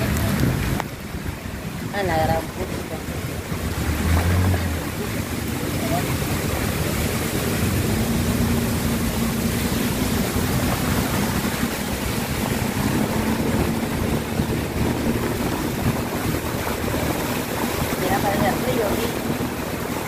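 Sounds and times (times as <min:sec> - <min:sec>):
car low hum: 0:00.0 - 0:20.0
heavy rain hissing: 0:00.0 - 0:20.0.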